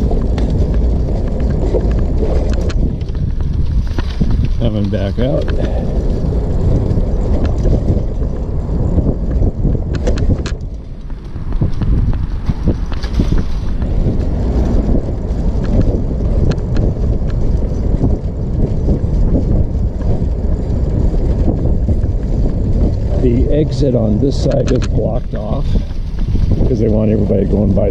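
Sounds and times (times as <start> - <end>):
wind rumbling on microphone: 0.0 - 27.9.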